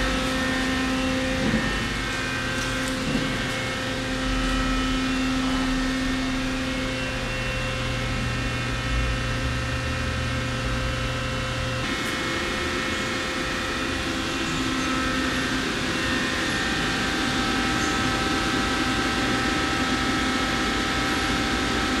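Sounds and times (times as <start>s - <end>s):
lathe machine hum: 0.0s - 22.0s.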